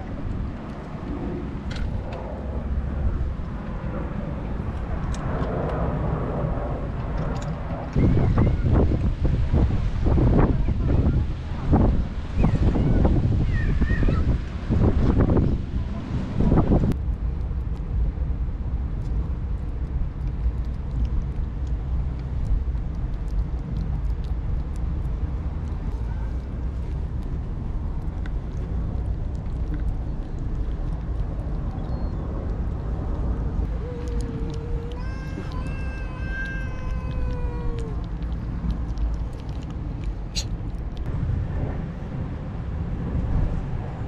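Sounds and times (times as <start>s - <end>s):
kitten chewing and lapping food: 0.0s - 12.3s, 16.9s - 41.9s
low outdoor rumble: 0.0s - 44.0s
wind buffeting microphone: 0.0s - 44.0s.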